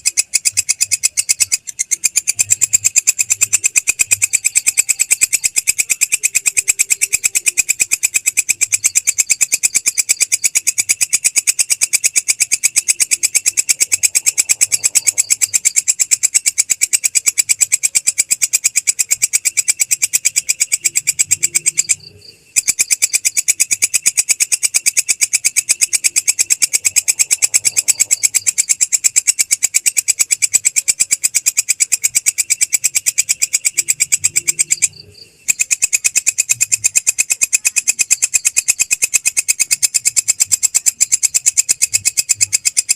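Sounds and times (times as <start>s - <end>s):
insect high-pitched trill: 0.0s - 42.9s.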